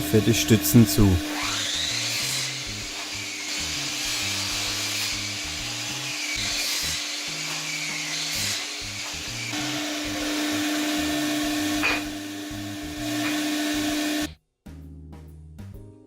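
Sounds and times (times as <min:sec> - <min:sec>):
electric power saw cutting wood: 0:00.0 - 0:14.3
background music: 0:00.0 - 0:16.0.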